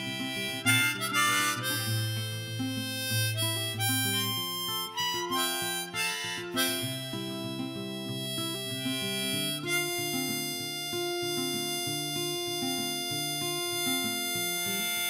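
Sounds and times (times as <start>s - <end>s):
guitar: 0.0s - 15.0s
harmonica melody: 0.0s - 15.0s.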